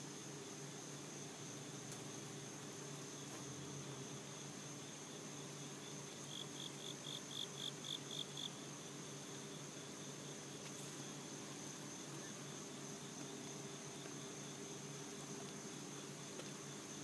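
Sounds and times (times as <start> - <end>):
cricket trill: 0.8 - 17.0.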